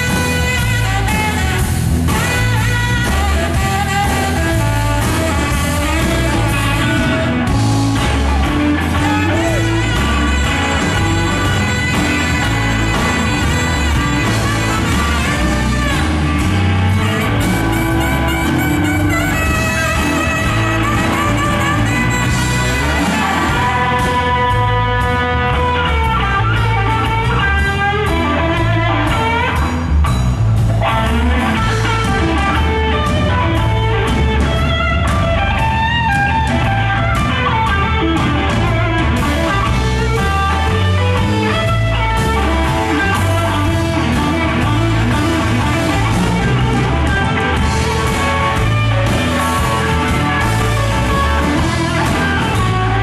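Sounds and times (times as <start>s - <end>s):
drum kit beat: 0.0s - 53.0s
electric guitar: 0.0s - 53.0s.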